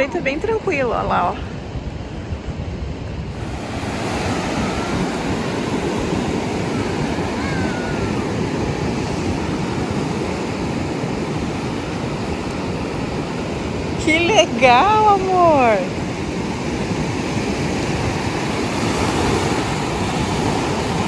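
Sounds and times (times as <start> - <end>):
small waves breaking ashore: 0.0 - 21.0
wind on microphone: 0.0 - 21.0.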